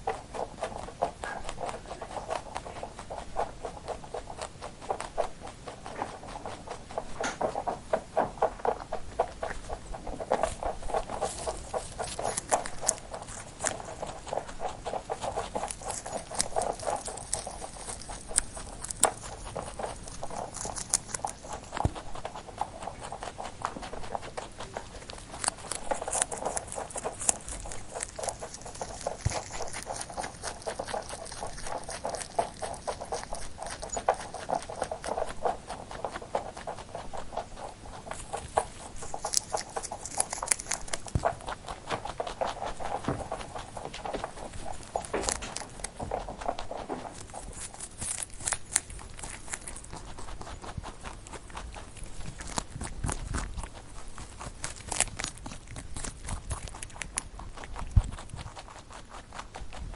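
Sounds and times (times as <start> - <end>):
rabbit quick clicks and crunching: 0.0 - 59.9.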